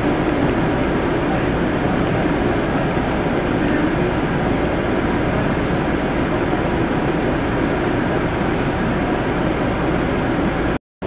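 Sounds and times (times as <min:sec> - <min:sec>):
train wheels rumbling on rails: 0:00.0 - 0:10.8.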